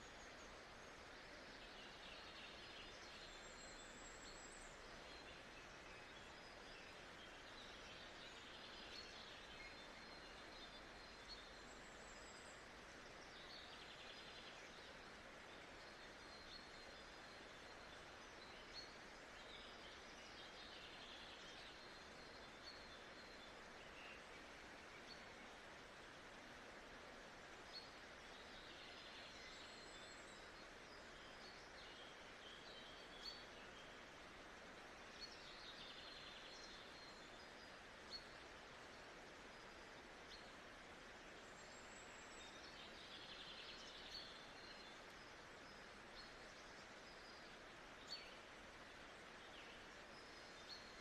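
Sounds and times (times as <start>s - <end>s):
soft background hiss: 0.0s - 51.0s.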